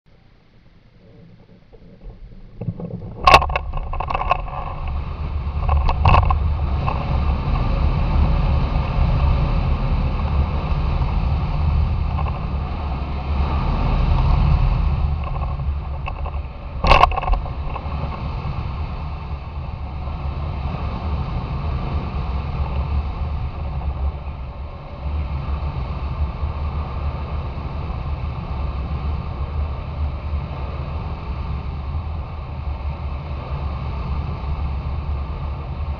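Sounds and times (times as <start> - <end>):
wind rushing over camera: 0.3 - 35.9.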